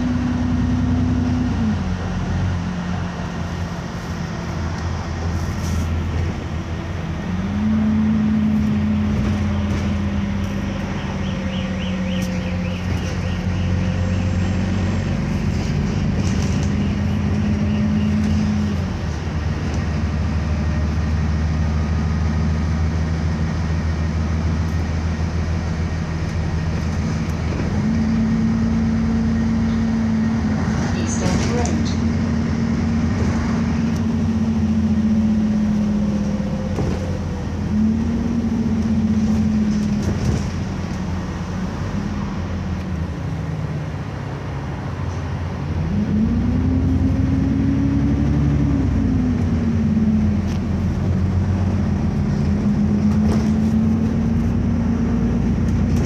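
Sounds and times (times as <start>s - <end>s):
bus diesel engine droning: 0.0s - 56.0s
road noise: 0.0s - 56.0s.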